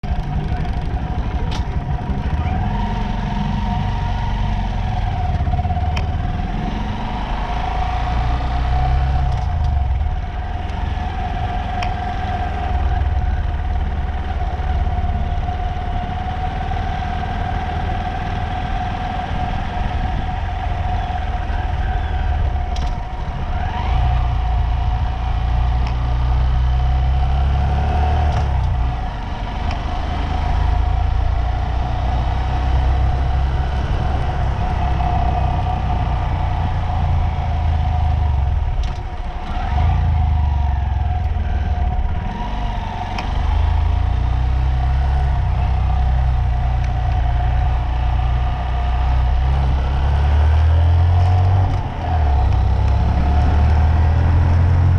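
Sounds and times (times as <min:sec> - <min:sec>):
vehicle high whine: 0:00.0 - 0:54.9
vehicle low rumble: 0:00.0 - 0:54.9.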